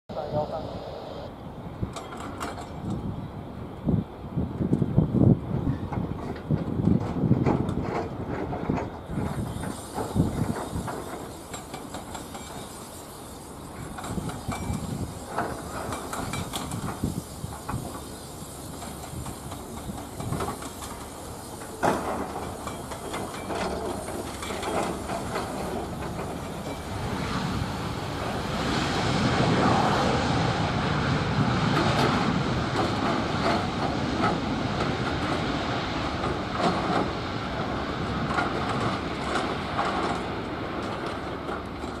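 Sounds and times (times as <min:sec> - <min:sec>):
jet engine rushing: 0:00.1 - 0:01.9, 0:09.1 - 0:41.9.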